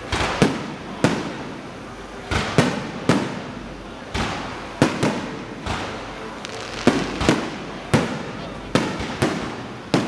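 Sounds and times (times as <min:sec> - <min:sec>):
fireworks bangs with echo: 0:00.0 - 0:10.0.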